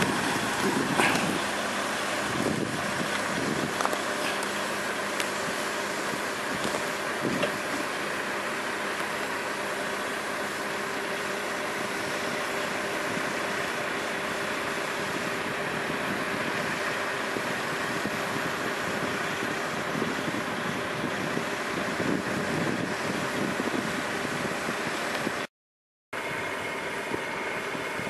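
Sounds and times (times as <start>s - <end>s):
diesel truck engine idling: 0.0s - 25.5s, 26.2s - 28.0s
tractor engine idling: 0.0s - 25.5s, 26.2s - 28.0s.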